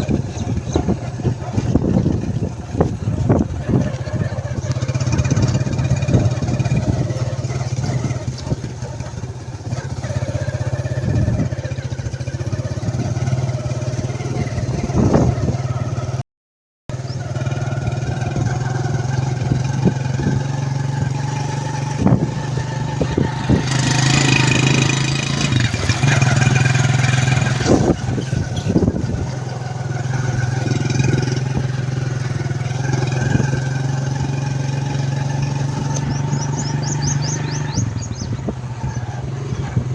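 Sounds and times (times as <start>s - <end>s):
engine humming steadily: 0.0s - 16.2s, 16.9s - 39.9s.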